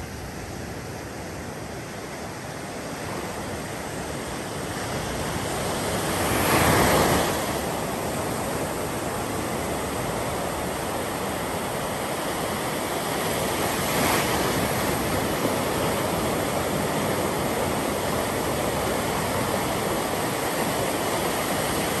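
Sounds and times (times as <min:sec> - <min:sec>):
waves washing onto beach: 0:00.0 - 0:22.0.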